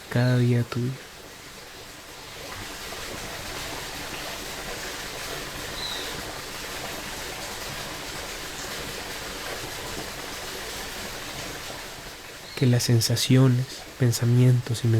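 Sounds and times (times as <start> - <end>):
creek water rushing: 0.0 - 14.9.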